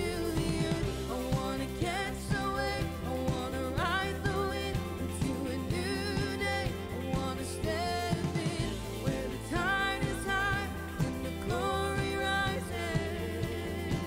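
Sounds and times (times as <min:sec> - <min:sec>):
instrumental backing with beat: 0:00.0 - 0:14.0
person singing with vibrato: 0:00.0 - 0:14.0.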